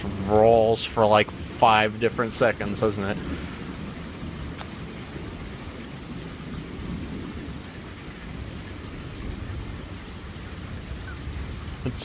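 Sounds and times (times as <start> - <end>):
rolling thunder: 0.0 - 12.0
steady rain: 0.0 - 12.0.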